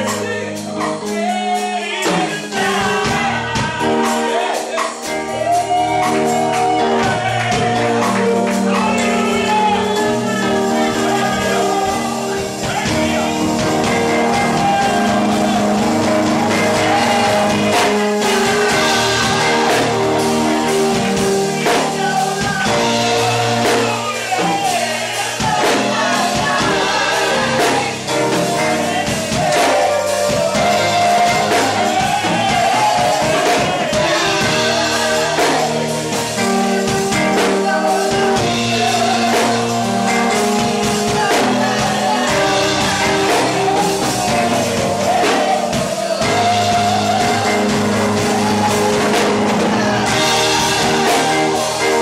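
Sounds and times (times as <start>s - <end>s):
bass: 0.0s - 4.3s, 5.0s - 52.0s
drum kit with cymbals: 0.0s - 52.0s
held chords: 0.0s - 52.0s
woman singing gospel: 0.0s - 52.0s.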